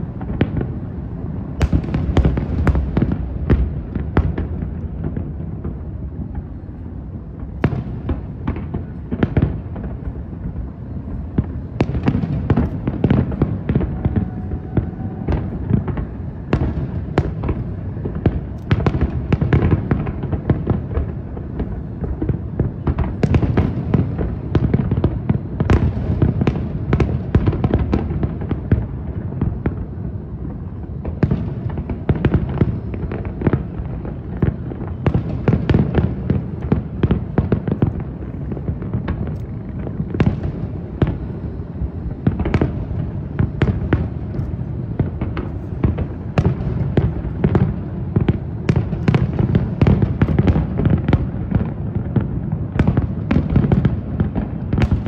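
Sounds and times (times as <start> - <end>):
fireworks bangs and cracks: 0.0 - 55.0.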